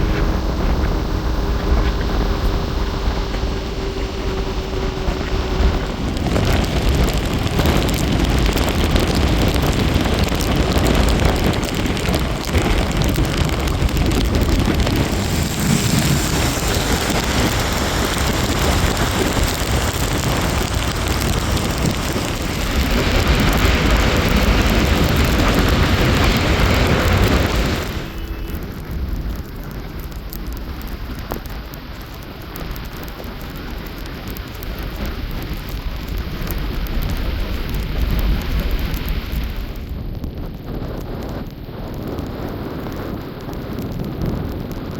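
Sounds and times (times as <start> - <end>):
motorcycle engine running: 0.0 - 42.2
road noise: 0.0 - 44.9
rushing wind: 0.0 - 44.9.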